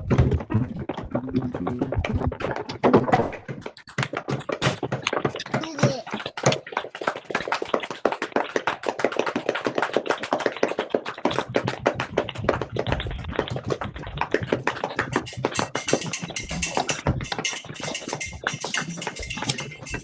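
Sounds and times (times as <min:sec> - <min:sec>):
people clapping and slapping thighs: 0:00.0 - 0:20.0.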